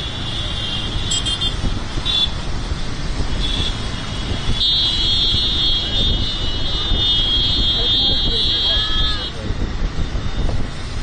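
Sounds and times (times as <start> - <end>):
motorcycle engines rumbling: 0.0 - 11.0.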